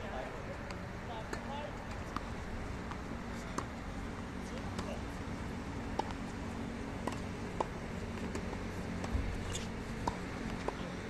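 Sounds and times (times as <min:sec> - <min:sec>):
tennis balls struck and bouncing: 0:00.0 - 0:11.0.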